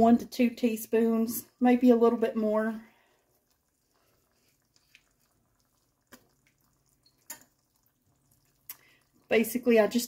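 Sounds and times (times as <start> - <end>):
sauce dripping into a pan: 0.6 - 10.0.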